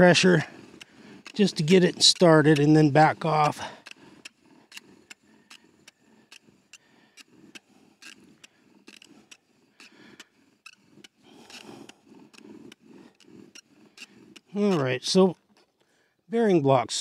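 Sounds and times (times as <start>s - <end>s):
rhythmic rubbing strokes: 0.0s - 15.3s.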